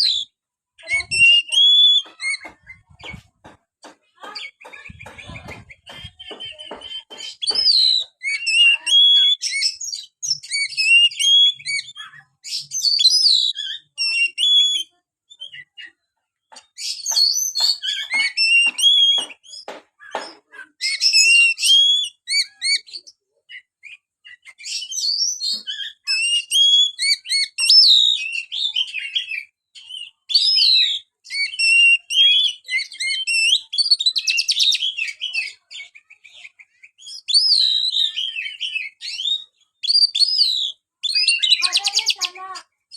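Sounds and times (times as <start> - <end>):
songbird whistling and trilling: 0.0 - 3.3, 4.2 - 42.3.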